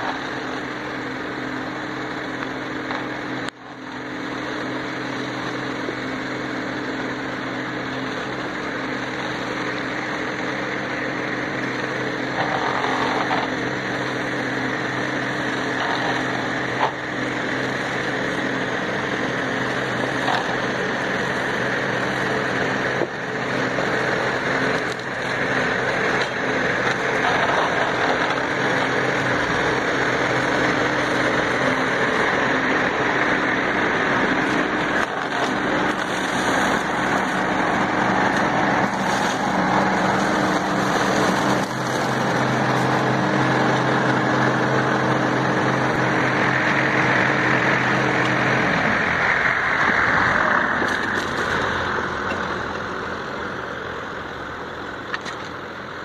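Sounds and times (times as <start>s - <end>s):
mower head cutting grass: 0.0s - 56.0s
tractor diesel engine running: 0.0s - 56.0s.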